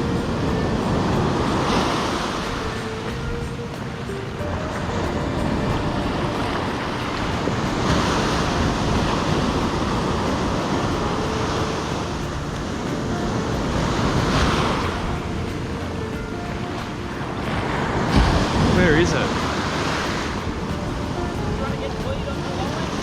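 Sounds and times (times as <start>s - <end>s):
ocean surf breaking on beach: 0.0s - 23.0s
wind on microphone: 0.0s - 23.0s.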